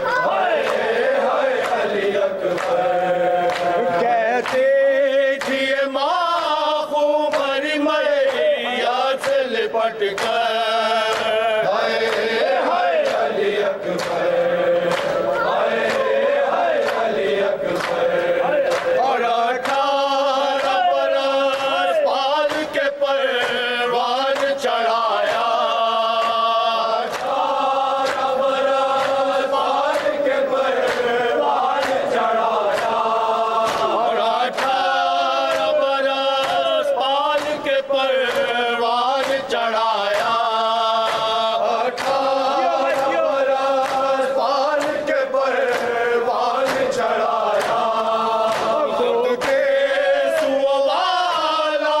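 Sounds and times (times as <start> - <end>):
men chanting a lament: 0.0 - 52.0
rhythmic chest slaps: 0.0 - 52.0.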